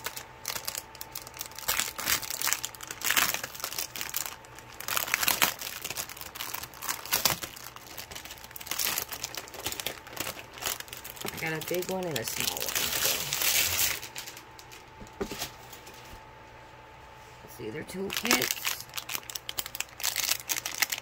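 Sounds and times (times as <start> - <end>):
plastic wrapping crinkling: 0.0 - 16.2, 18.0 - 21.0.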